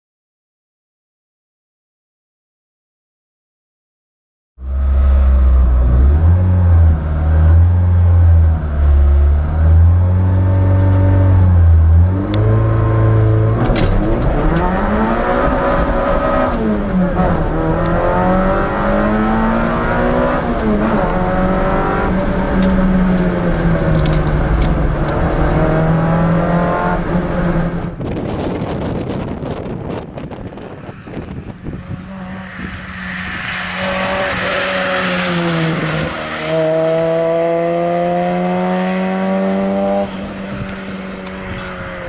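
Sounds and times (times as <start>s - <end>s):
car engine revving and accelerating: 4.6s - 42.0s.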